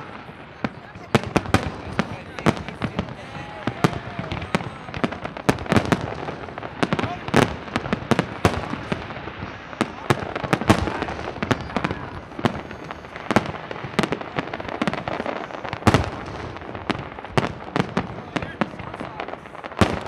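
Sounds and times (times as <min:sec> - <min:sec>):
fireworks rumble and crackle: 0:00.0 - 0:20.0.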